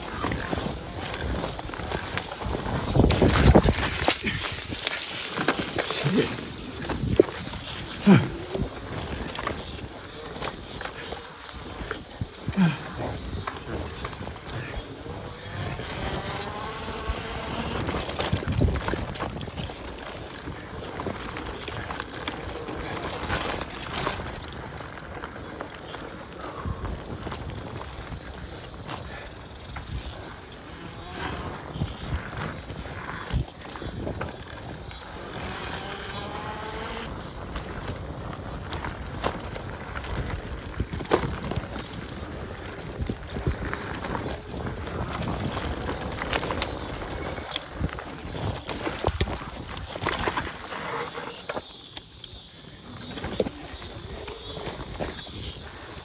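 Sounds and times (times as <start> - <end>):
bike and stones rattling: 0.0 - 56.0
bike tyres rolling on gravel: 0.0 - 56.0
wind on microphone: 0.0 - 56.0.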